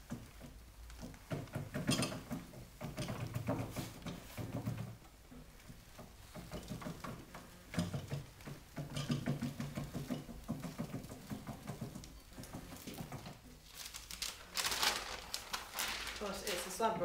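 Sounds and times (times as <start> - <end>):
gearing clicks and creaks: 0.0 - 14.3.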